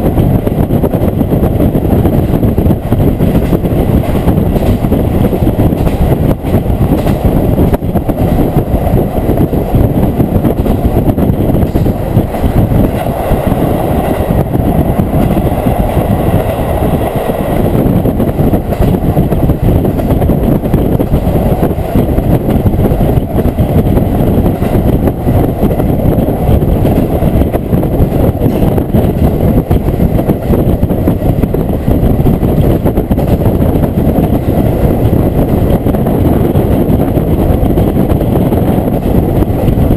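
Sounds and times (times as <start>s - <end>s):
diesel railcar engine: 0.0s - 39.9s
wheels rumbling on rails: 0.0s - 39.9s.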